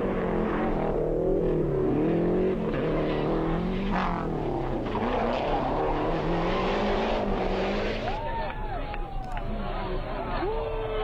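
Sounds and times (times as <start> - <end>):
rally car engine revving: 0.0 - 8.2, 9.3 - 11.0.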